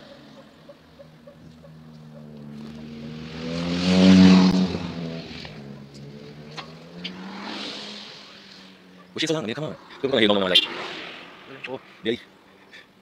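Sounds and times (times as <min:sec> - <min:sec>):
motor vehicle passing by: 0:00.0 - 0:12.6.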